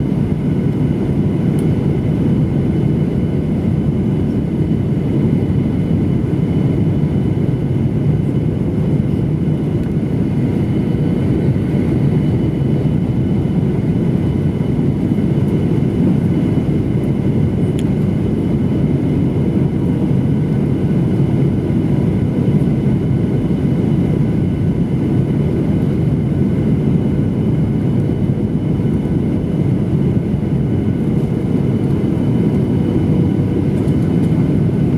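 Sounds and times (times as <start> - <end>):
jet airliner engine rumble: 0.0 - 34.9.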